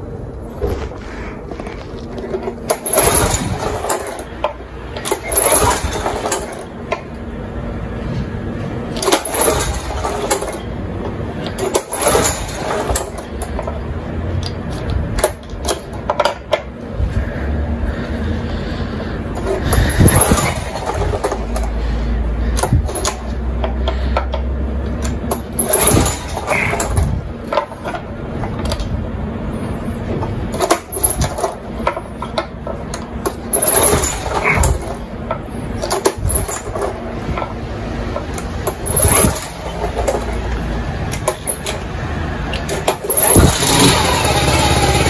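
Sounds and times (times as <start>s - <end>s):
recoil starter rope whirring: 0.6s - 7.2s, 8.9s - 45.0s.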